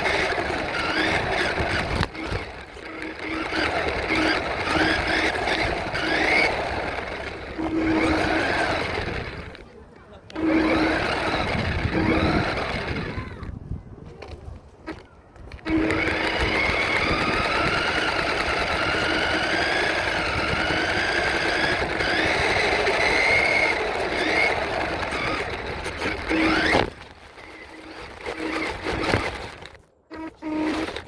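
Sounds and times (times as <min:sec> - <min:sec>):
toy truck motor whining: 0:00.0 - 0:13.6, 0:14.2 - 0:31.0.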